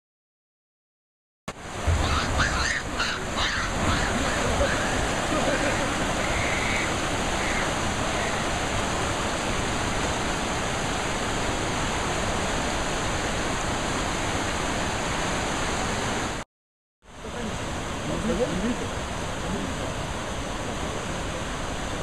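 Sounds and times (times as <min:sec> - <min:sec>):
river rushing over rocks: 0:01.5 - 0:16.4, 0:17.1 - 0:22.0.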